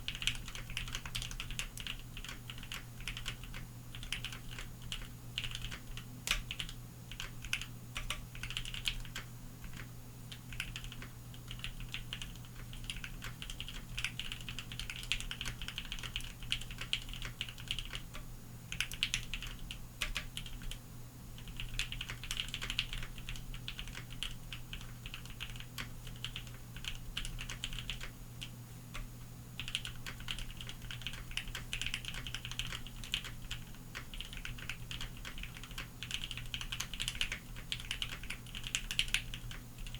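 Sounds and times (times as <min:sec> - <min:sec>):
mechanical keyboard typing: 0:00.0 - 0:20.8, 0:21.4 - 0:28.5, 0:29.6 - 0:39.9
steady low hum: 0:00.0 - 0:39.9.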